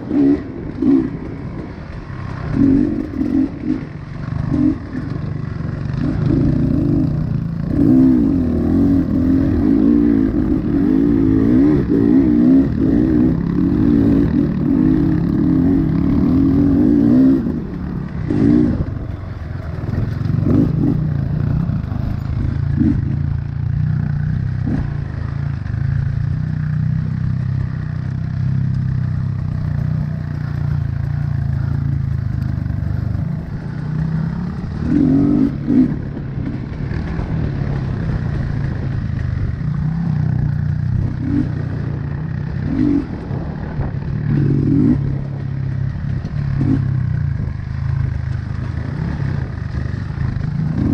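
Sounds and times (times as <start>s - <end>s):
pit bike engine revving: 0.0s - 50.9s.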